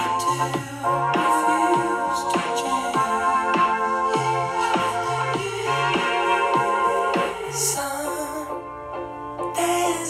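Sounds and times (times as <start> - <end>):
background music held chords: 0.0 - 10.0.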